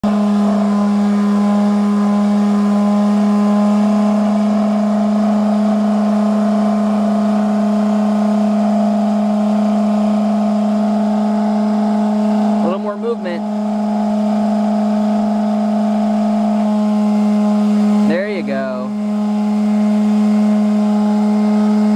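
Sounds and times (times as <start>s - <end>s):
electric sander running: 0.0s - 21.9s.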